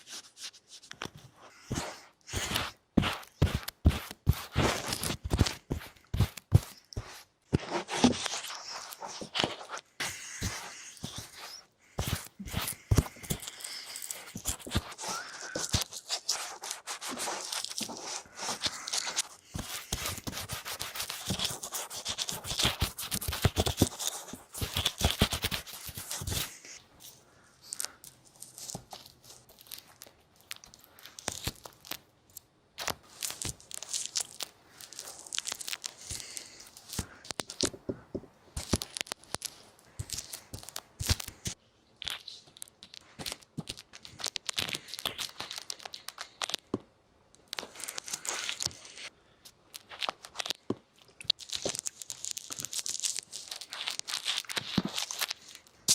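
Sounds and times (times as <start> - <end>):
crinkling and rubbing: 0.0 - 46.7, 47.4 - 49.1, 49.7 - 55.9.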